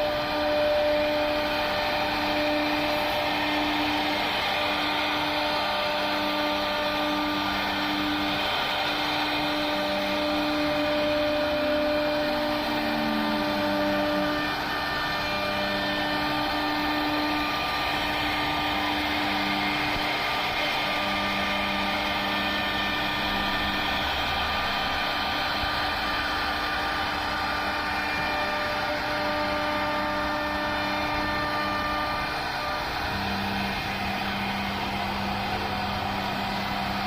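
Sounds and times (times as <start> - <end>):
router machine humming: 0.0 - 37.0.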